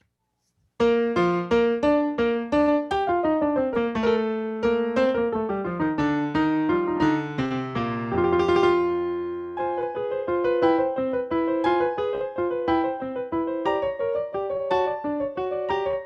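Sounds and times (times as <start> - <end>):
slow piano melody: 0.8 - 16.0.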